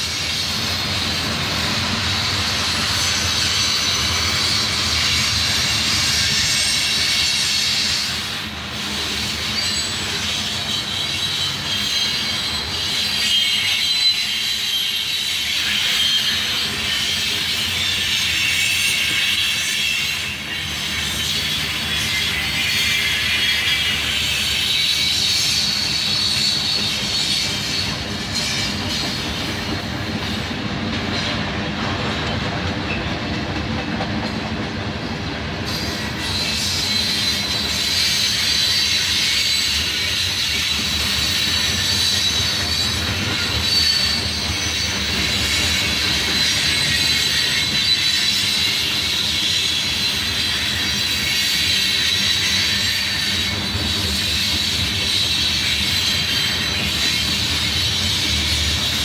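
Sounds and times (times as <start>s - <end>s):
high wheel squeal: 0.0s - 31.4s, 35.6s - 59.0s
train wheels on rails: 0.0s - 59.0s.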